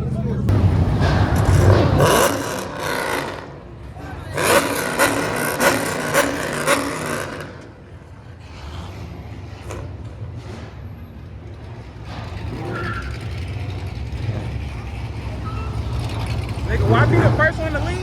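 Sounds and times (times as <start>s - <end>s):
car engine revving: 0.5s - 10.8s, 12.0s - 18.0s.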